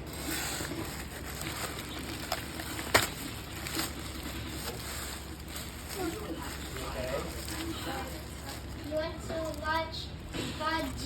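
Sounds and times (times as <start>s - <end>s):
packaging rustling: 0.0s - 9.8s
steady low hum: 0.0s - 11.0s.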